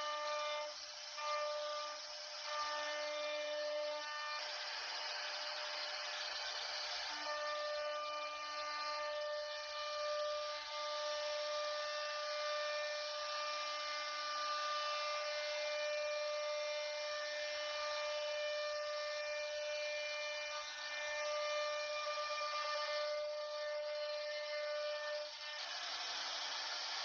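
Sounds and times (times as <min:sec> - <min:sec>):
router spindle whining: 0:00.0 - 0:27.0.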